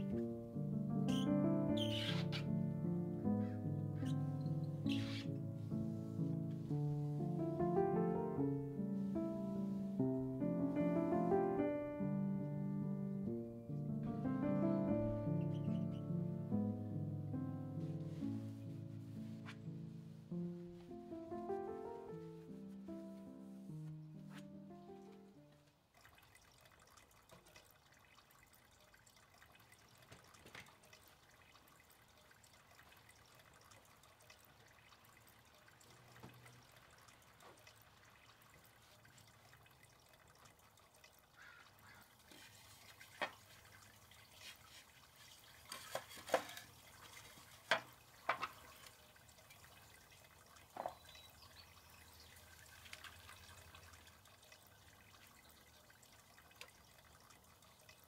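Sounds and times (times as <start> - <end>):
water dripping and trickling: 0.0 - 58.0.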